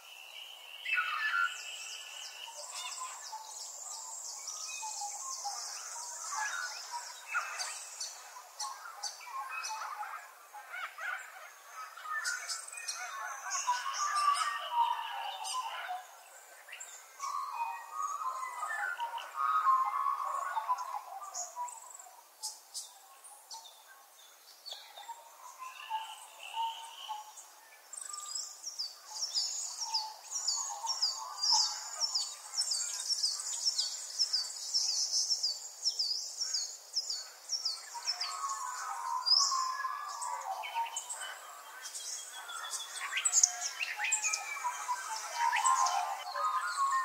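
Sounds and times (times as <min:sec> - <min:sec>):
songbirds chirping and singing: 0:00.0 - 0:47.0.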